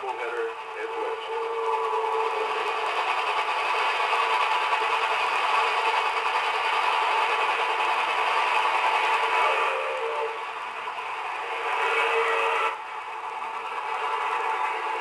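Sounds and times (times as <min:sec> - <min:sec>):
steam locomotives working hard: 0:00.0 - 0:15.0.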